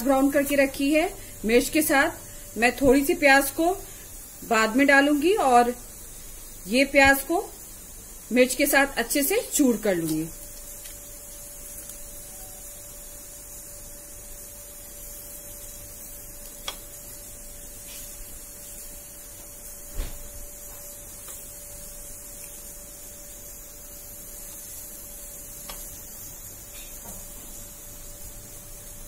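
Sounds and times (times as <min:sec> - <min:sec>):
faint hiss: 0:00.0 - 0:29.0
steady low hum: 0:00.0 - 0:29.0.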